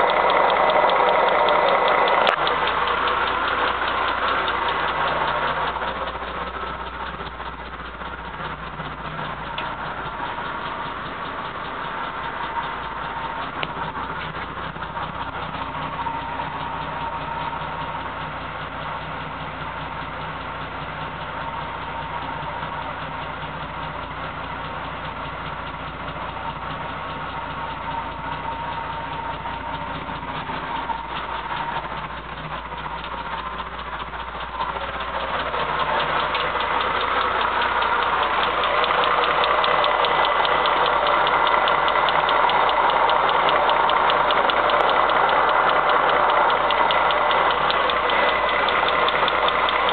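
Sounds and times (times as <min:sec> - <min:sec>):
car engine idling with knock: 0:00.0 - 0:49.9.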